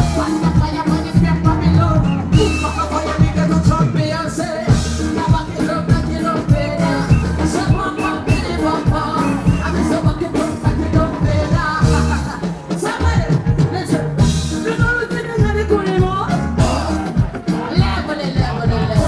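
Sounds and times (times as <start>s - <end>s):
live band music: 0.0s - 19.0s
person singing: 0.0s - 19.0s.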